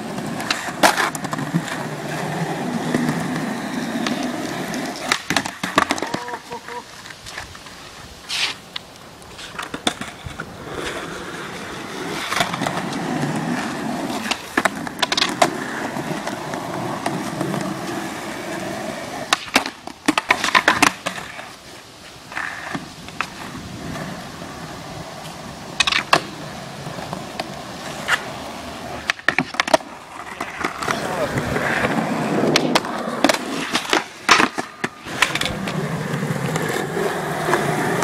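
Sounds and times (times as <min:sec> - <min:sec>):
skateboard clacking on ground: 0:00.0 - 0:38.0
skateboard wheels rolling on concrete: 0:00.0 - 0:38.0.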